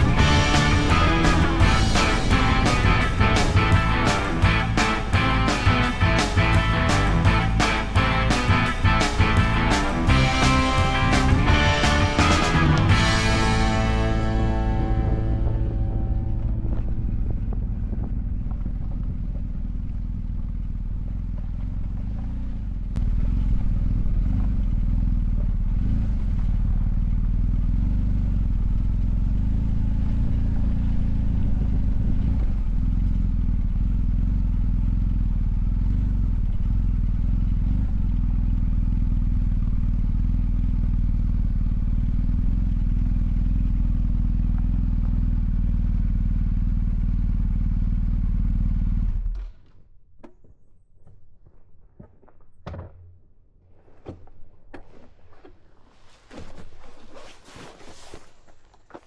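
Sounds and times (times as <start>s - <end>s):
motorcycle engine running: 0.0s - 49.6s.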